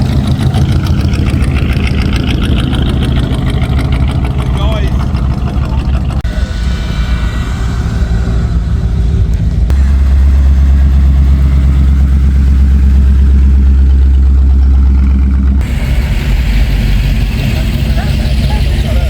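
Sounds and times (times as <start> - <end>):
car engine deep rumble: 0.0 - 19.0
engine with hiss: 0.0 - 19.0.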